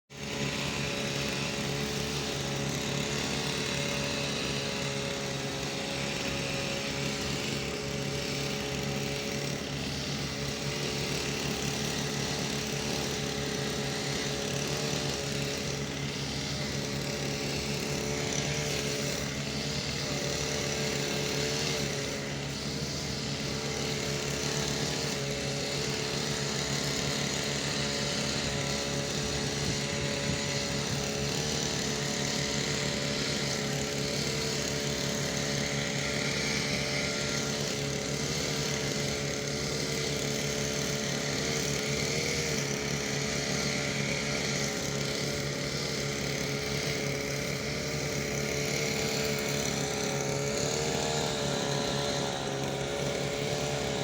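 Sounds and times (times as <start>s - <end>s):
lawn mower engine cutting grass: 0.1s - 54.0s.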